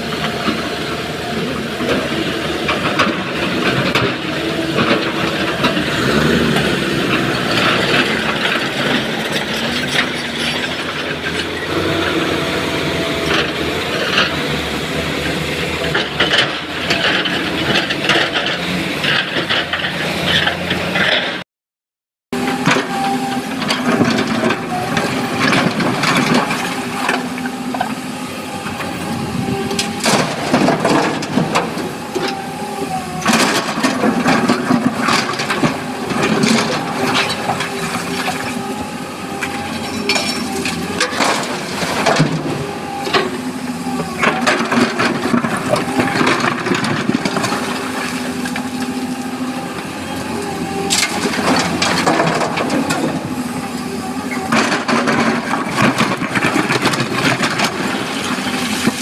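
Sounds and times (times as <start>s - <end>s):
excavator diesel engine: 0.0s - 21.4s, 22.3s - 59.0s.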